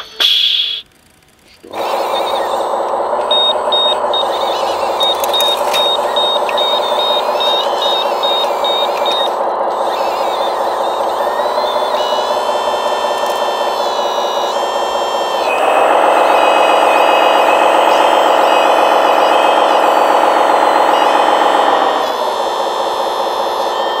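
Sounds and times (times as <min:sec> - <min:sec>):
diesel engine sound: 0:00.8 - 0:24.0
high warning beeper: 0:01.7 - 0:24.0.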